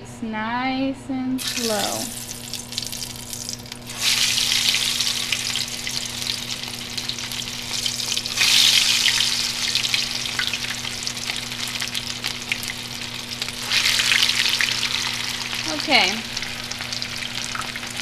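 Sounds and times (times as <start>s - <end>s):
food sizzling in hot oil: 1.4s - 18.0s.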